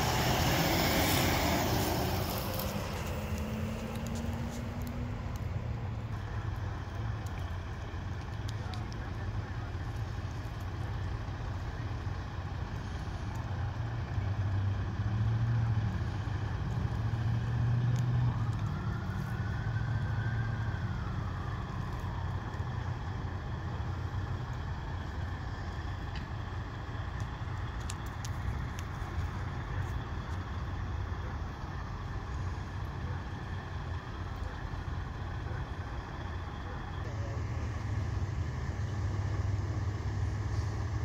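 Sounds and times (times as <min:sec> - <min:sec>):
vehicle engines idling: 0:00.0 - 0:41.0.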